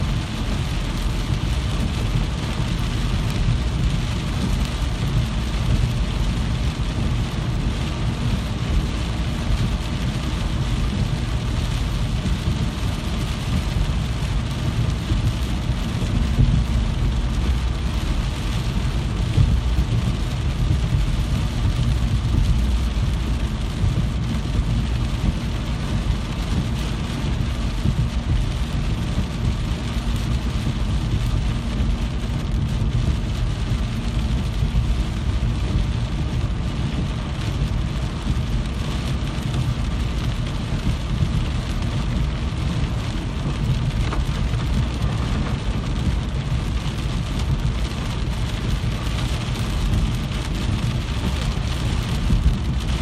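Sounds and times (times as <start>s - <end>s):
heavy rainfall: 0.0s - 53.0s.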